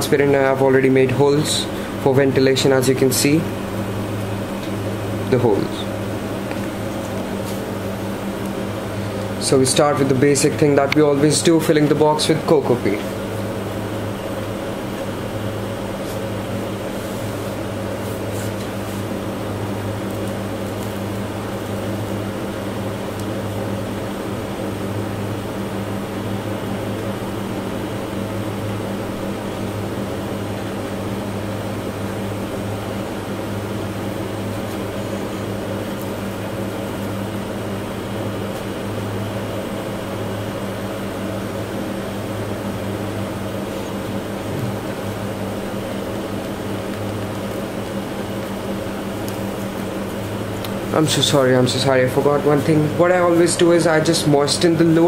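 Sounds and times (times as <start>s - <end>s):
low electric hum: 0.0s - 55.0s.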